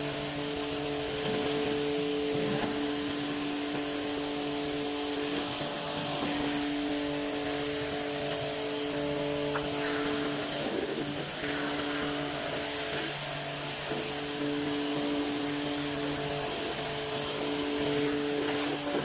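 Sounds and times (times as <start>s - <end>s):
pressure washer motor whine: 0.0s - 19.0s
water jet hissing: 0.0s - 19.0s.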